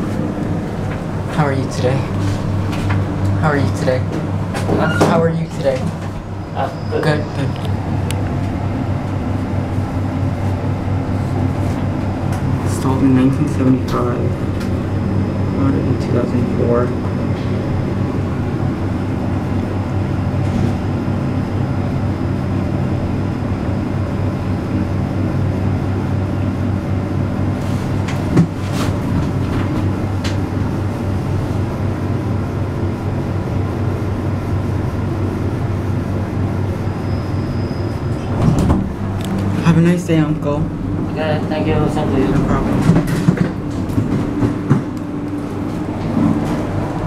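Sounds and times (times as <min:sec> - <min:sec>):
lift hum and rumble: 0:00.0 - 0:47.0.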